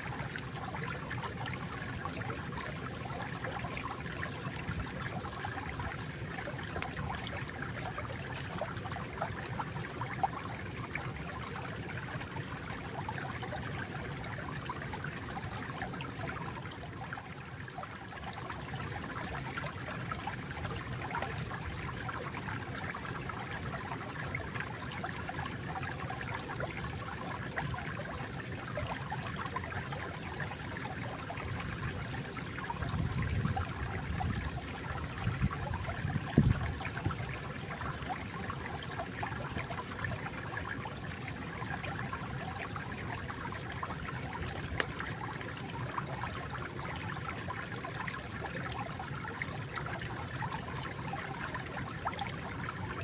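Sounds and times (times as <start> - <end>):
water gurgling stream: 0.0 - 53.0.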